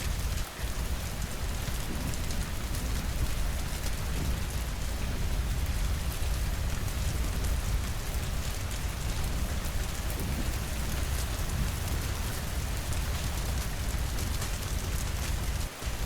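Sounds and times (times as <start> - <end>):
raindrops ticking: 0.0 - 16.0
steady rain hissing: 0.0 - 16.0.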